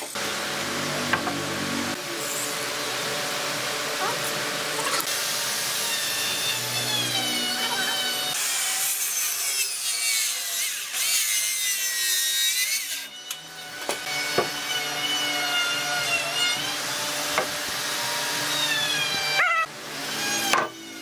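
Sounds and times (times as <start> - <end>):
power tool cutting wood: 0.0 - 21.0.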